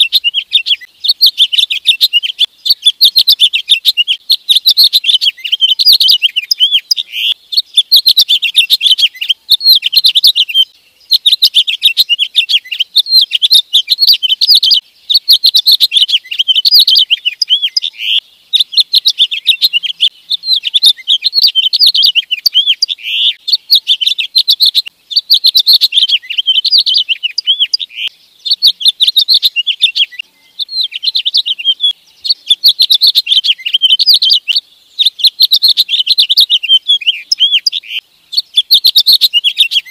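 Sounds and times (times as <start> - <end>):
finch warbling song: 0.0 - 39.9.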